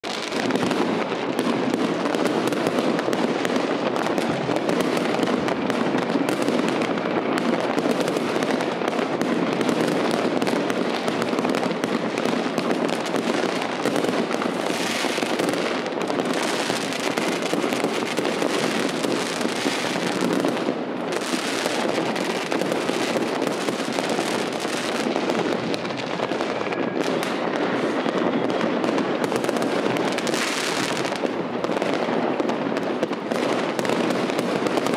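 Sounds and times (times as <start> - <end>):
fireworks crackling and banging: 0.0 - 34.9.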